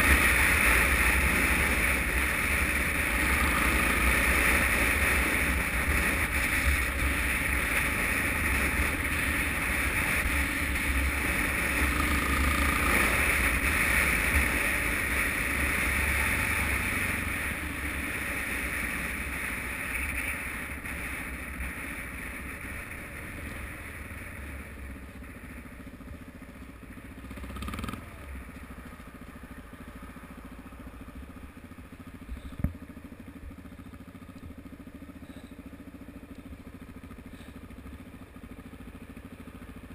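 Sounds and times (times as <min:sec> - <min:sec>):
motorcycle riding: 0:00.0 - 0:39.9.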